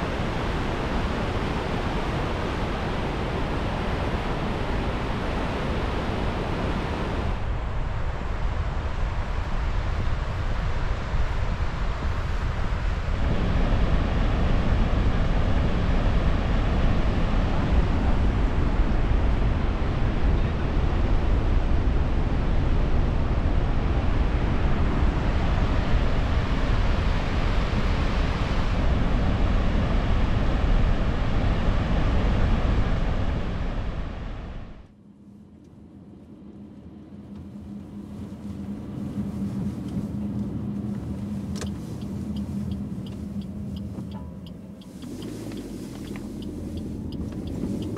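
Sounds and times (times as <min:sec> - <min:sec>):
car road and wind noise: 0:00.0 - 0:47.9.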